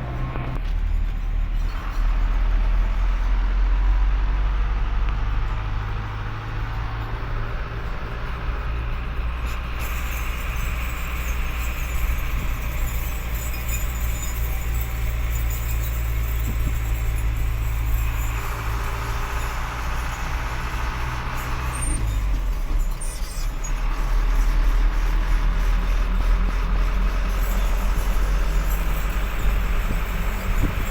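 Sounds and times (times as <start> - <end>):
road noise: 0.0 - 30.9
truck engine running: 0.0 - 30.9.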